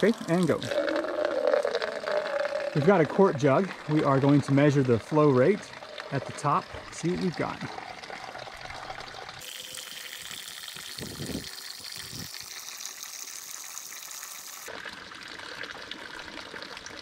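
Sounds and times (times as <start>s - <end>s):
water trickling into plastic cup: 0.0s - 17.0s.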